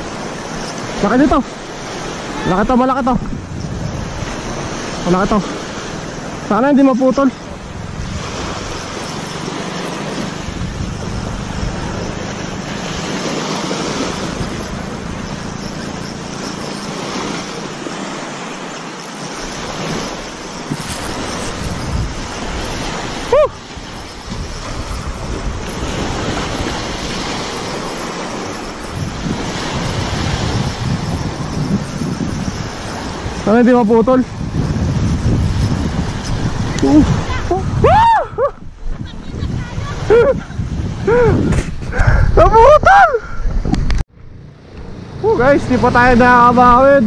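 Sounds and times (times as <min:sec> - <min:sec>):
small waves washing on beach: 0:00.0 - 0:47.0
wind on microphone: 0:00.0 - 0:47.0.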